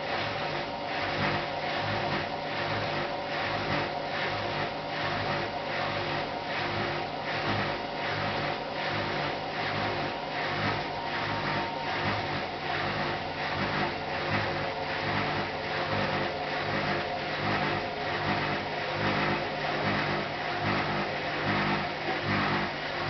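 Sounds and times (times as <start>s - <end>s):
washing machine motor whine: 0.0s - 23.0s.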